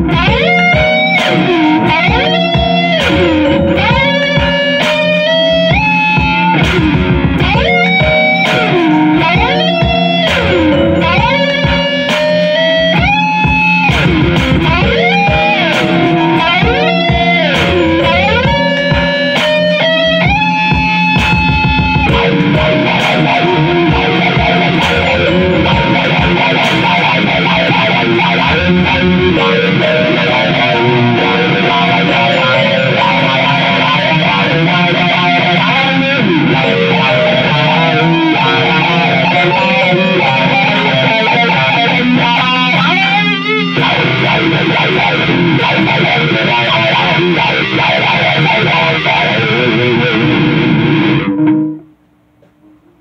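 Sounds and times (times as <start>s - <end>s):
backing beat percussion: 0.0s - 50.4s
electric guitar lead: 0.0s - 53.0s.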